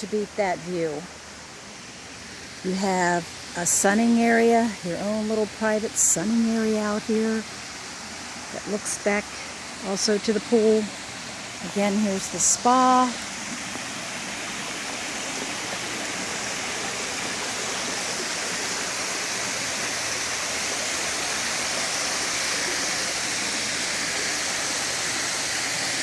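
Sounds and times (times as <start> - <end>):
falling water rushing: 0.0 - 26.0.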